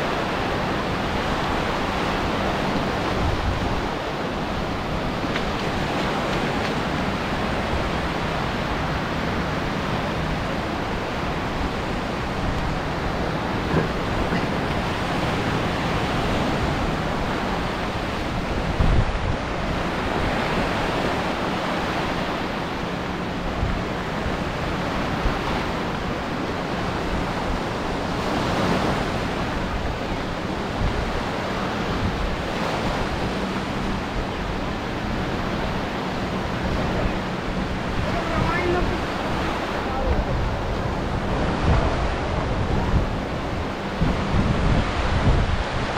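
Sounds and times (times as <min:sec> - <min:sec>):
sea surf washing onto beach: 0:00.0 - 0:45.9
wind on microphone: 0:00.0 - 0:45.9.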